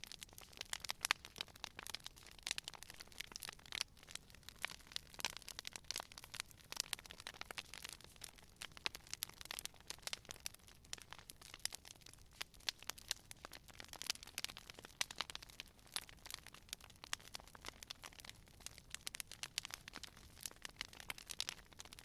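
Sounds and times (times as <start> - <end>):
low hiss of burning: 0.0 - 22.0
wood fire crackling: 0.0 - 22.0.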